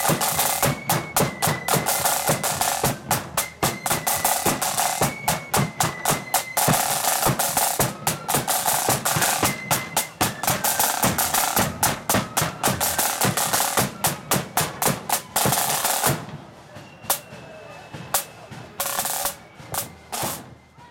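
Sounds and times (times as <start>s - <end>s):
flute notes: 0.0s - 20.9s
snare drum rolls: 0.0s - 20.9s.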